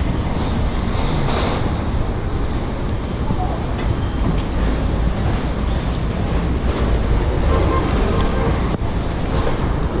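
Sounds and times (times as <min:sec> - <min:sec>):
bicycle riding rumble: 0:00.0 - 0:10.0
road noise: 0:00.0 - 0:10.0.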